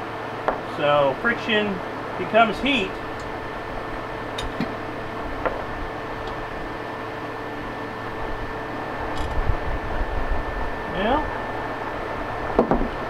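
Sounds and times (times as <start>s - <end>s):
background hum and hiss: 0.0s - 13.0s
faint constant tones: 0.0s - 13.0s.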